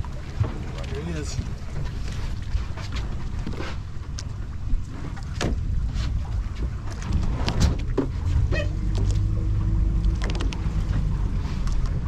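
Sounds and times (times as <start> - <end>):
boat engine low rumble: 0.0 - 12.0
water splashing against hull: 0.0 - 12.0.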